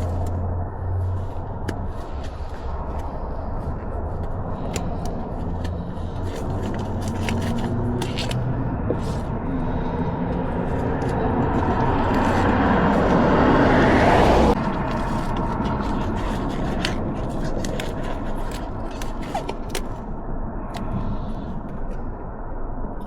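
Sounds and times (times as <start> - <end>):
vehicle engine running: 0.0 - 19.8.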